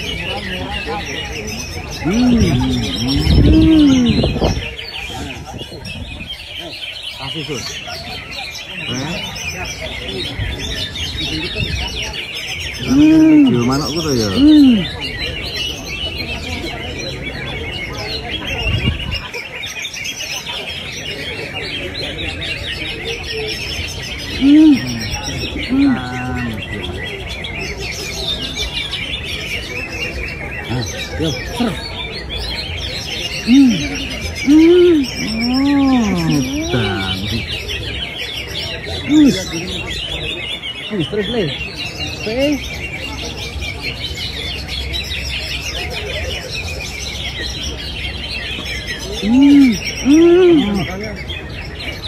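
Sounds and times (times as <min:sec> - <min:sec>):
birds chirping and warbling: 0:00.0 - 0:52.0.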